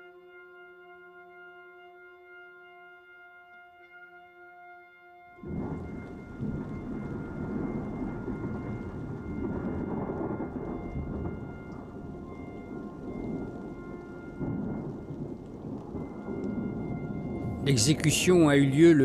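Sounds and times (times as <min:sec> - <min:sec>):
faint held musical tones: 0:00.0 - 0:19.0.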